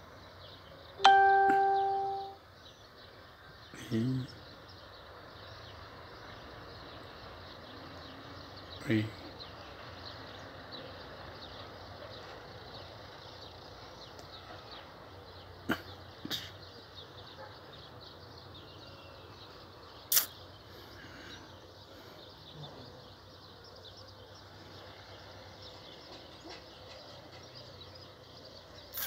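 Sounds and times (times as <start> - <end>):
steady outdoor hiss: 0.0 - 29.0
faint bird chirps: 0.4 - 29.0.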